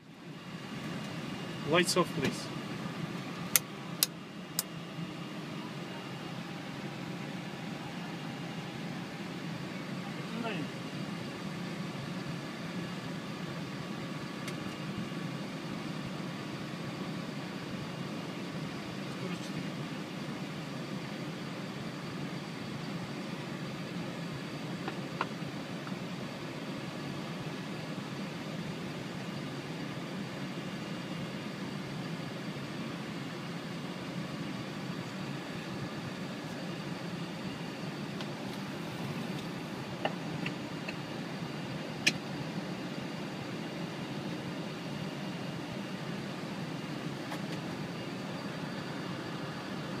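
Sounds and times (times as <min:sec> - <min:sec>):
airliner cockpit hum: 0:00.0 - 0:50.0.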